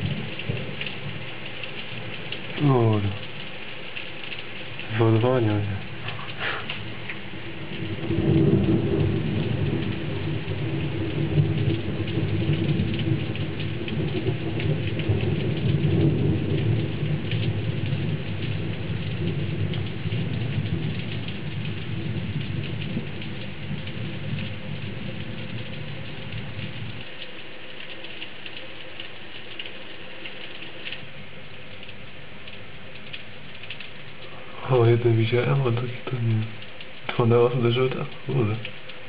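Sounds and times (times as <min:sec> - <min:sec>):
steady rain: 0:00.0 - 0:39.0
thunder rumbling: 0:00.0 - 0:39.0.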